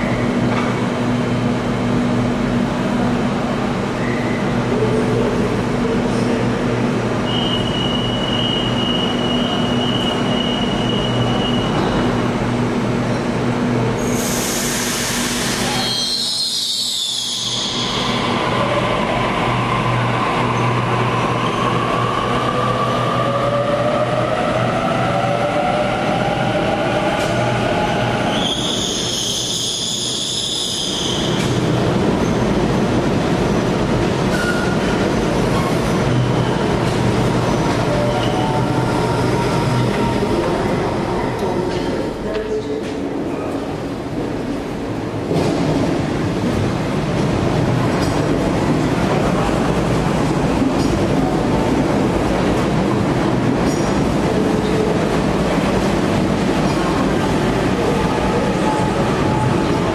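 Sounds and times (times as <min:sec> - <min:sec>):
rising train whine: 0:00.0 - 0:59.9
train rumbling on rails: 0:00.0 - 0:59.9.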